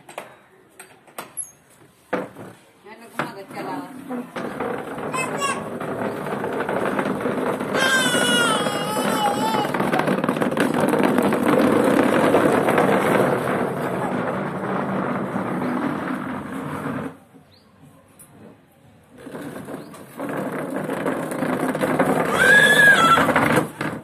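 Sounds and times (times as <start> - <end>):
chair legs scraping on concrete: 1.2 - 17.3, 18.4 - 24.0.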